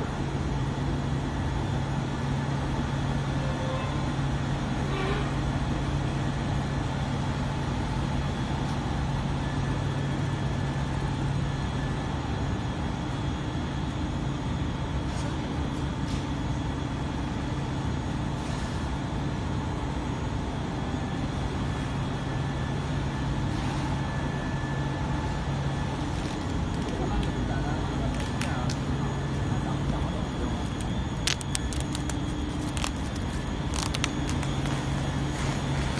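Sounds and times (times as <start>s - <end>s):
factory machinery droning: 0.0s - 35.9s.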